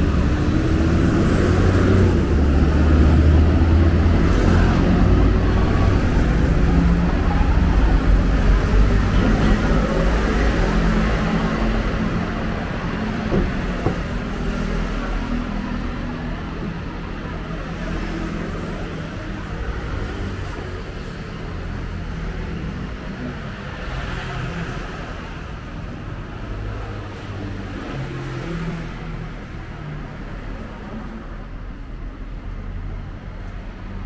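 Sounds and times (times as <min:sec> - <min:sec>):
street traffic passing: 0:00.0 - 0:34.0.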